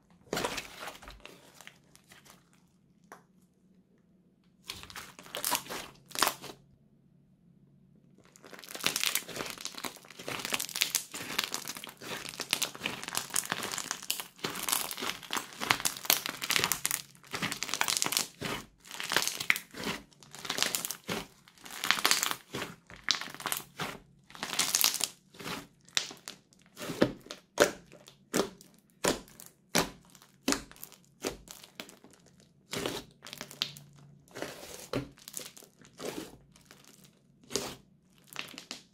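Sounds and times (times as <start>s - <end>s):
crunchy slime crackling: 0.2s - 2.8s, 4.6s - 6.6s, 8.2s - 38.9s.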